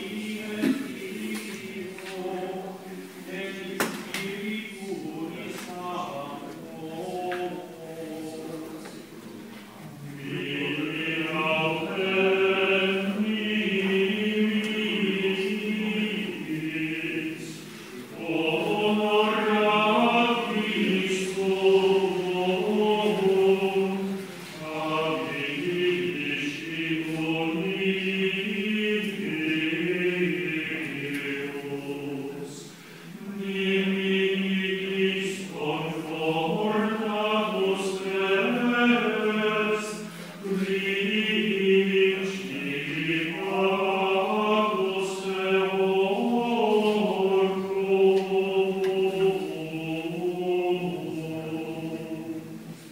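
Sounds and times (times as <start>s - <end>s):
choir singing plainchant: 0.0s - 52.9s.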